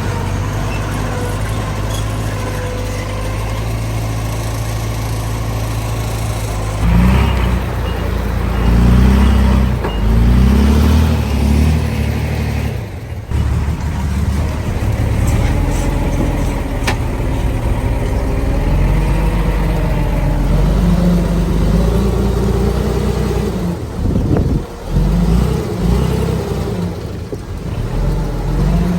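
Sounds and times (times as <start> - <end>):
heavy diesel engine revving: 0.0 - 28.9.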